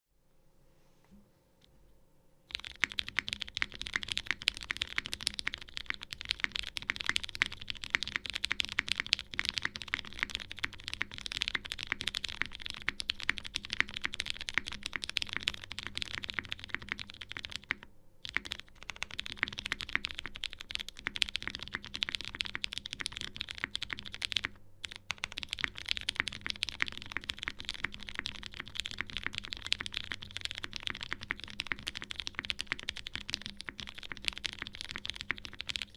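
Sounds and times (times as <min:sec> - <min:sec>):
fast typing on mechanical keyboard: 0:02.5 - 0:35.9.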